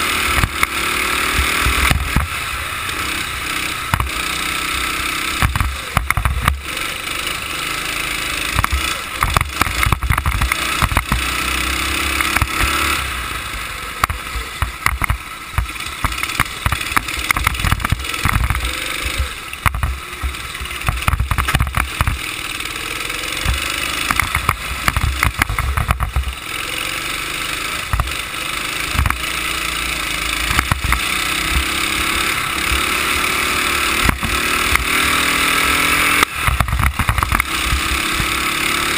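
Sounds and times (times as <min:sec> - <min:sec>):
go-kart engine racing: 0:00.0 - 0:38.9.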